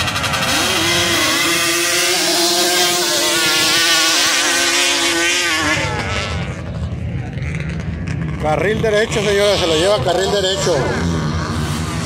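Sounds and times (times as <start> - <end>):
quad engines at high revs: 0.0 - 12.0.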